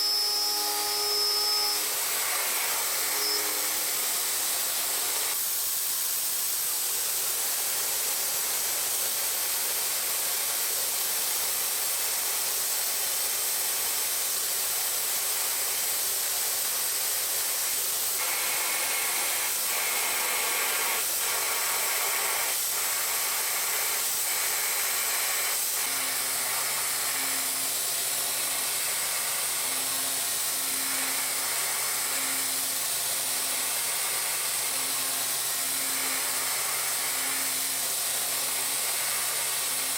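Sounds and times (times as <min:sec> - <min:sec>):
machine spraying hiss: 0:00.0 - 0:39.9.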